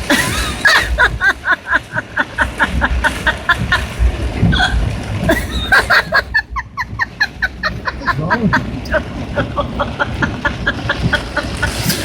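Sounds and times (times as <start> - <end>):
low rumble of a car: 0.0 - 11.9
person laughing hysterically: 0.0 - 12.0.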